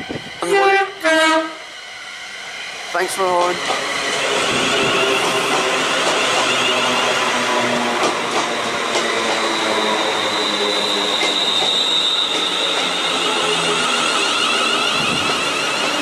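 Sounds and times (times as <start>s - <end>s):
high wheel squeal: 0.0s - 16.0s
train wheels rumbling on rail: 0.0s - 16.0s.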